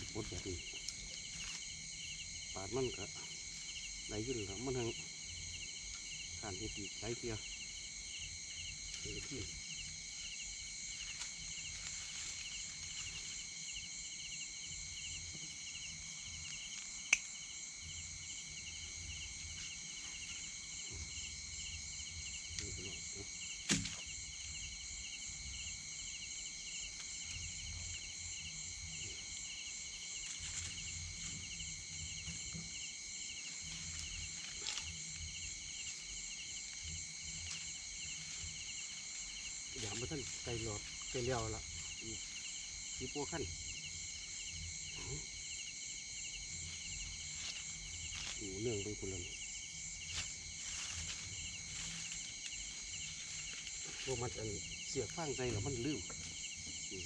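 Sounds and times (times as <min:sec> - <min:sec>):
insect chorus trilling: 0:00.0 - 0:57.0.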